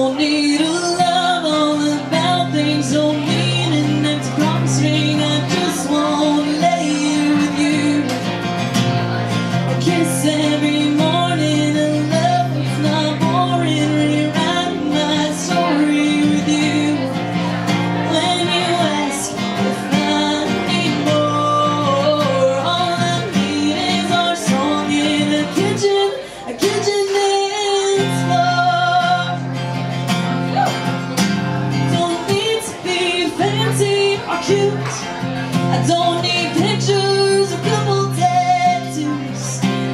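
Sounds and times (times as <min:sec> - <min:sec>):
woman singing: 0:00.0 - 0:08.4, 0:09.6 - 0:29.5, 0:31.7 - 0:39.9
country band with guitar: 0:00.0 - 0:39.9.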